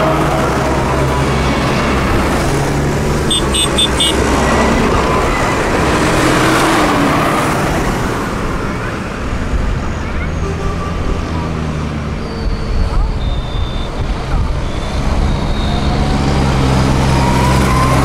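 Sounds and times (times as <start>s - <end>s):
tractor diesel engines passing: 0.0s - 18.0s.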